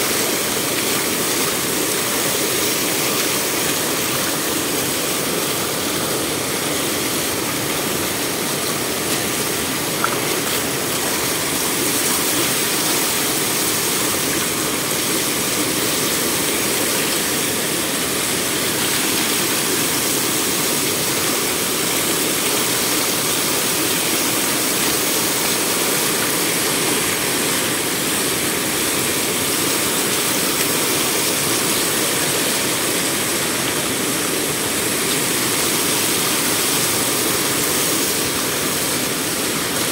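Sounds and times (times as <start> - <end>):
water pouring over stone: 0.0 - 39.9.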